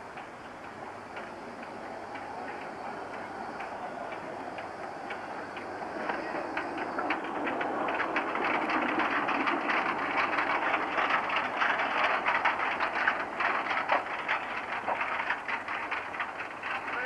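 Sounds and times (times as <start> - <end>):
freight train rolling by: 0.0 - 17.0
wagons rattling and clanking: 0.1 - 17.0.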